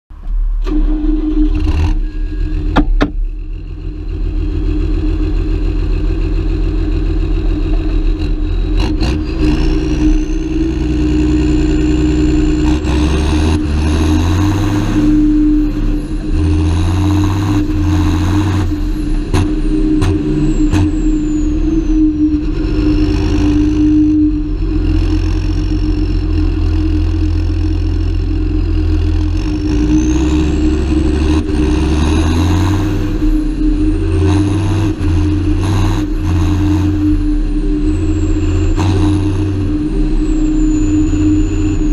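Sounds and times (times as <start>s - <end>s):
tractor diesel engine under load: 0.1s - 41.9s
high whine: 0.3s - 41.9s.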